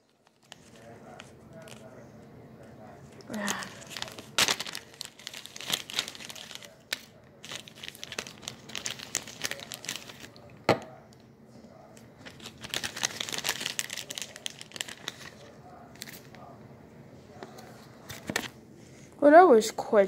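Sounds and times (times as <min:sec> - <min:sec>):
rustling crinkling handling noise: 0:00.0 - 0:16.6, 0:17.2 - 0:19.2.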